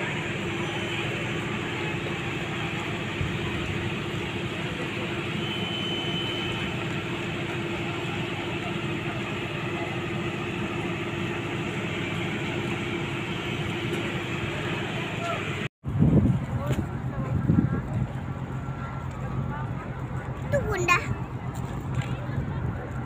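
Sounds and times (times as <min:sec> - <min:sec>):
ferry machinery humming: 0:00.0 - 0:23.0.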